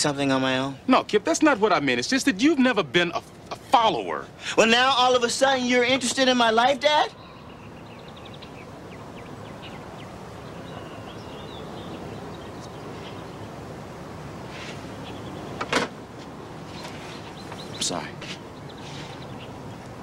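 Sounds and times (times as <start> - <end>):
low outdoor hiss: 0.0 - 20.0.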